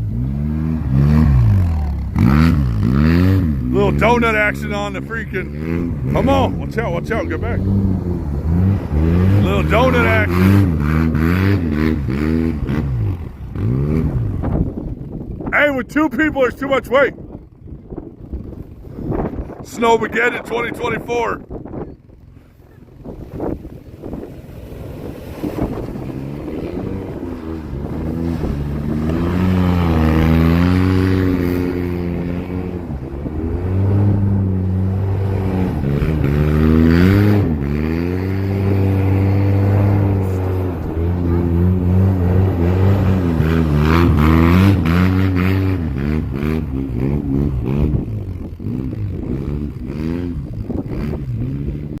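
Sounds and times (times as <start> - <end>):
vehicle engine revving: 0.0 - 52.0.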